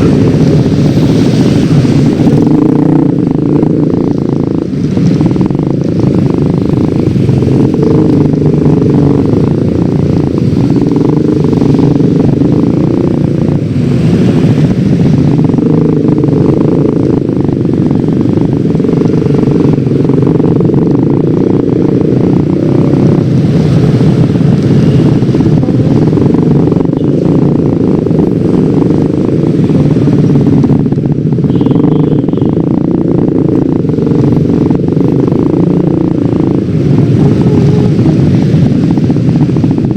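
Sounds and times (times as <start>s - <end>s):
wind buffeting microphone: 0.0s - 31.5s, 32.5s - 39.9s
scooter engine running: 0.0s - 39.9s.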